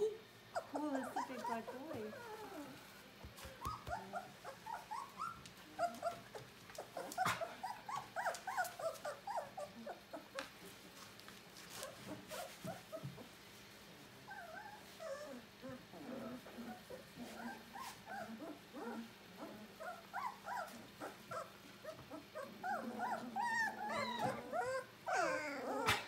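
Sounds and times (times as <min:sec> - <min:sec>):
puppies whimpering and whining: 0:00.0 - 0:10.4, 0:11.7 - 0:13.4, 0:14.3 - 0:26.0.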